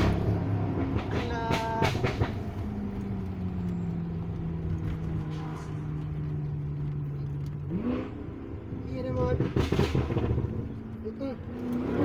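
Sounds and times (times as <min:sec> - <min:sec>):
car engine heard from cabin: 0:00.0 - 0:12.0.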